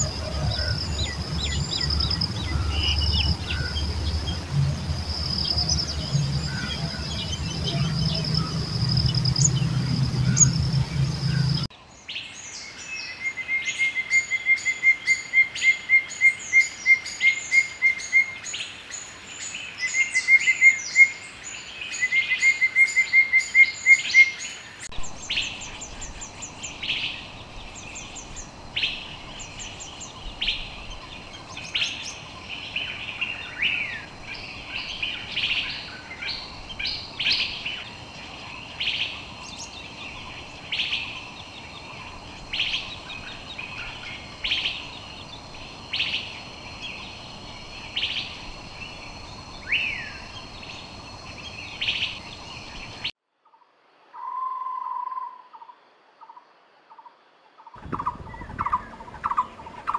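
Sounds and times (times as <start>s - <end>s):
birds chirping: 0.0s - 53.1s, 57.8s - 59.9s.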